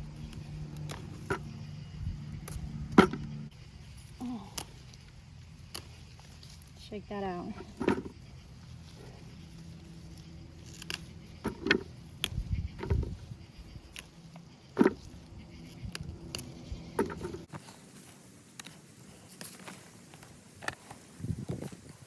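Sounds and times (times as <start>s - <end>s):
rustling of plants being handled: 0.0s - 22.0s.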